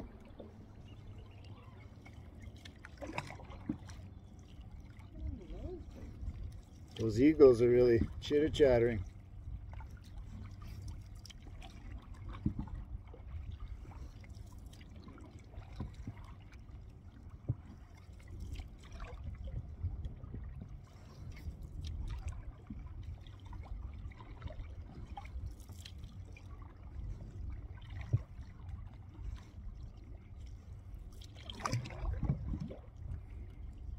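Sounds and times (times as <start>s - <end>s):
wind rumble on microphone: 0.0s - 2.3s, 3.1s - 33.9s
water trickling and dripping: 0.0s - 33.3s.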